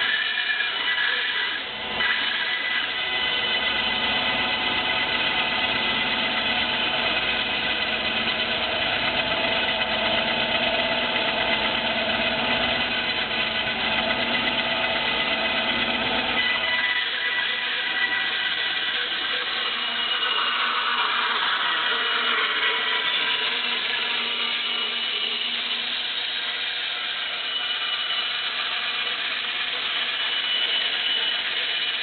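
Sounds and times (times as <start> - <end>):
power saw cutting wood: 0.0 - 32.0.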